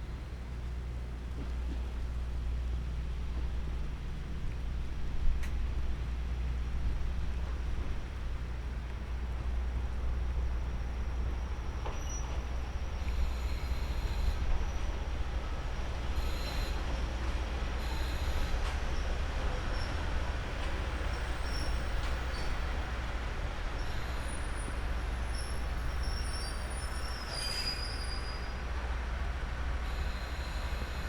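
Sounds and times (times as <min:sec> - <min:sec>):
diesel railcar engine rumble: 0:00.0 - 0:31.0.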